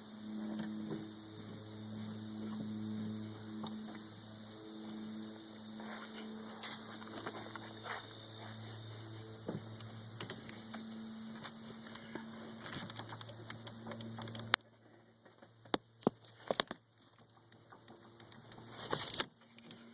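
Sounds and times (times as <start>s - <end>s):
drivetrain hum: 0.0s - 19.9s.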